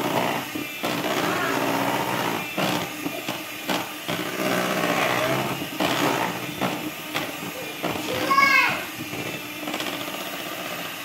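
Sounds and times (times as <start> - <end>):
electric mixer whirring: 0.0 - 11.0.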